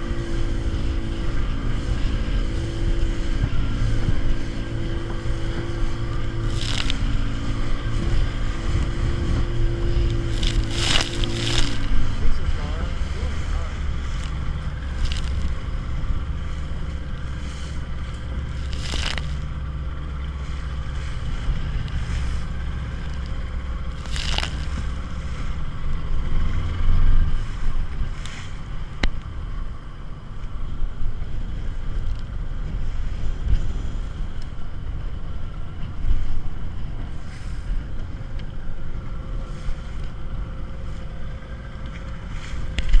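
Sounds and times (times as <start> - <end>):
motorboat engine hum: 0.0 - 43.0
wind and water rushing: 0.0 - 43.0.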